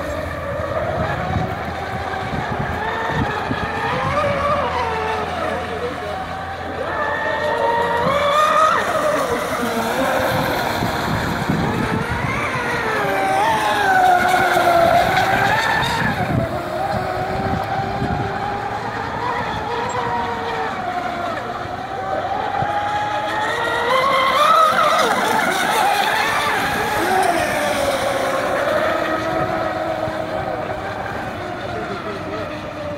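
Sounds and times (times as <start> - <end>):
electric motor boats whining: 0.0 - 32.9.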